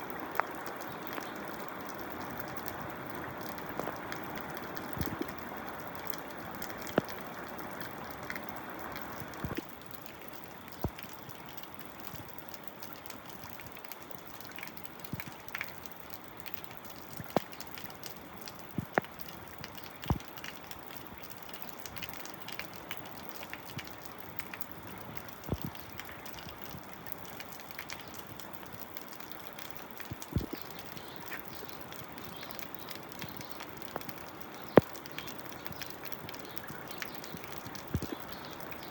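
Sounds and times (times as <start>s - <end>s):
soft steady hiss: 0.0s - 38.9s
water dripping: 0.0s - 38.9s.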